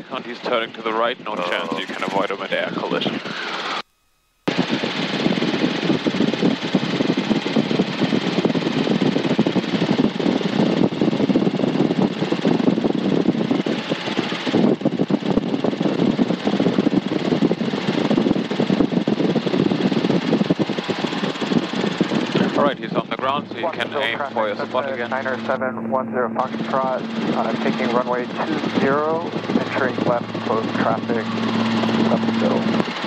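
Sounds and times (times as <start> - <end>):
helicopter engine and rotor drone: 0.0 - 3.8, 4.5 - 33.0.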